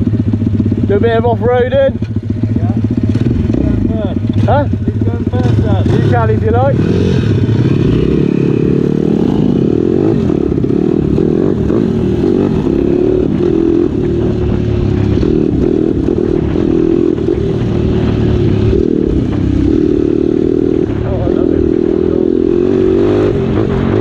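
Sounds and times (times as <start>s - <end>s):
pit bike engine running: 0.0s - 24.0s.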